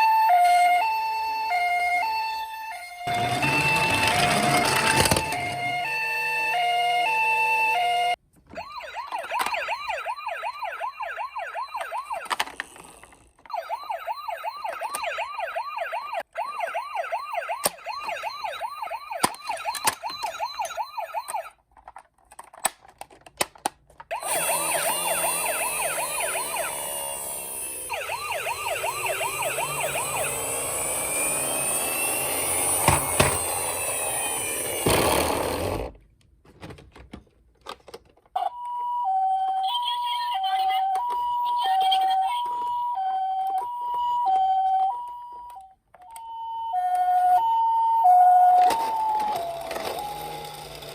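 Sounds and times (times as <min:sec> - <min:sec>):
toy electronic sirens: 0:00.0 - 0:21.7, 0:24.1 - 0:35.8, 0:38.3 - 0:50.9.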